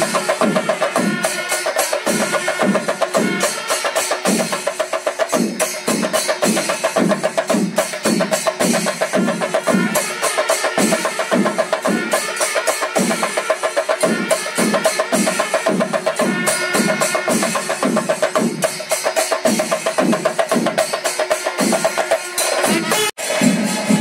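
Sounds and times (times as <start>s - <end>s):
drums beating fast: 0.0s - 24.0s
hand cymbals clashing: 0.0s - 24.0s.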